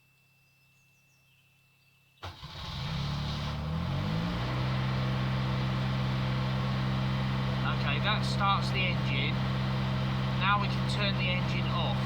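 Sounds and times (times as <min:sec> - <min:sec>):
refrigeration unit engine starting: 0:02.2 - 0:12.0.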